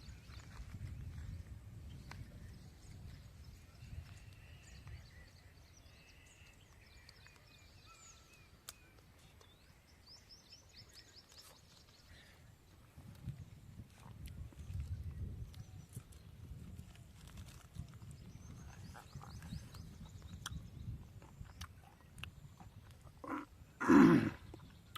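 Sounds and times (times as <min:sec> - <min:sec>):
faint birdsong: 0:00.0 - 0:24.9.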